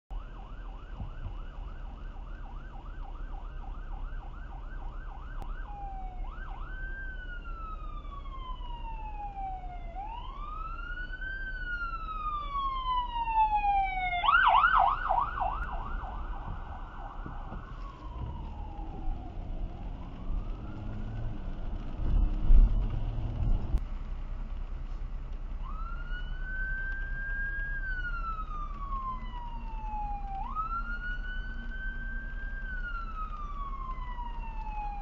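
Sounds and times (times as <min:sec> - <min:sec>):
low road rumble: 0:00.1 - 0:35.0
electronic siren yelp and wail: 0:00.2 - 0:23.4, 0:25.6 - 0:35.0.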